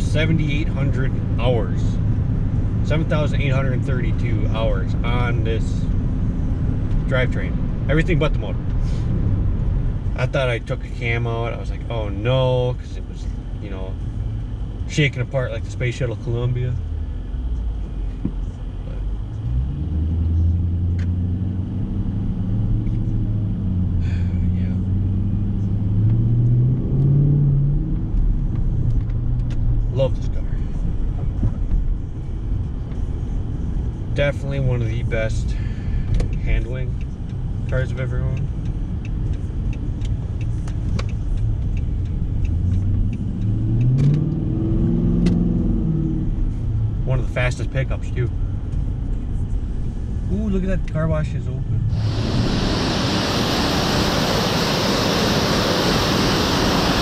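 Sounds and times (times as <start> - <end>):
car engine exhaust rumble: 0.0 - 57.0.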